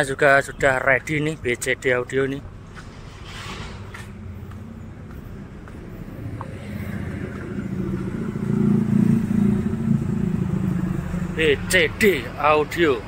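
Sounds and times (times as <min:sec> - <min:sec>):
vehicle engine approaching: 0:02.5 - 0:13.0.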